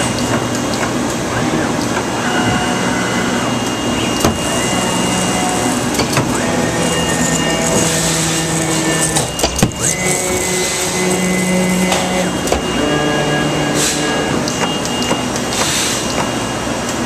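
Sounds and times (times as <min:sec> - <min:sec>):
plotter drive motors whining: 0:00.0 - 0:16.8.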